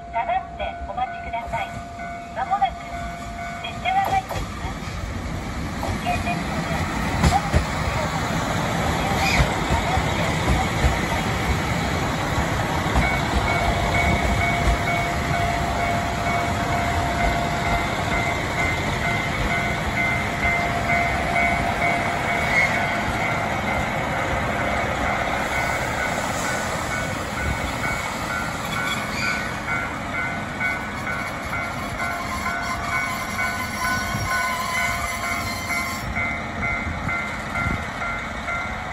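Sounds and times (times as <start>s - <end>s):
diesel train rumbling on track: 0.0s - 38.9s.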